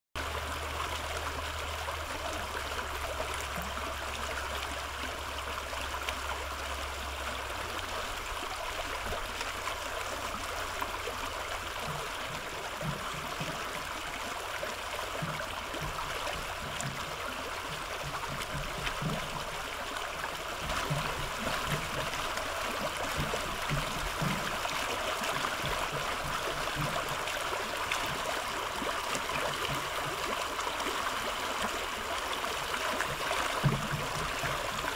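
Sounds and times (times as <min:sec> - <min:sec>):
brook flowing over rocks: 0:00.2 - 0:34.9
low water gurgles: 0:00.2 - 0:34.9.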